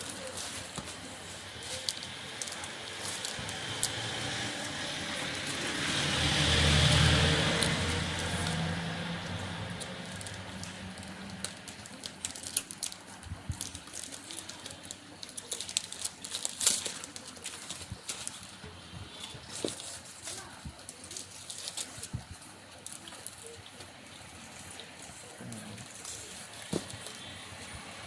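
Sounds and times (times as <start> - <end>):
packaging clicks and crackles: 0.0 - 27.7.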